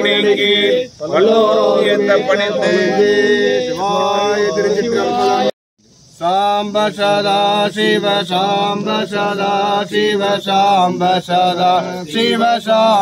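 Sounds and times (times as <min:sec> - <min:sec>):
man chanting a hymn: 0:00.0 - 0:05.5, 0:06.2 - 0:13.0.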